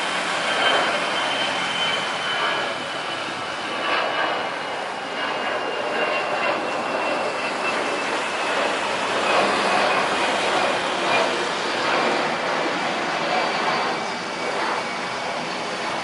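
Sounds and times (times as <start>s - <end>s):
high engine whine: 0.0s - 16.0s
jet engines rushing: 0.0s - 16.0s.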